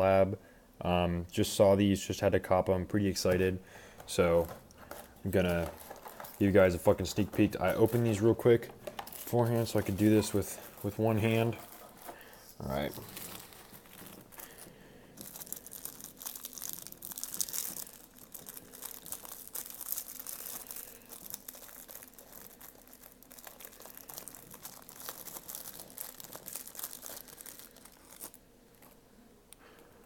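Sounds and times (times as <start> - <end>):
wrapper crinkling: 4.0 - 29.0.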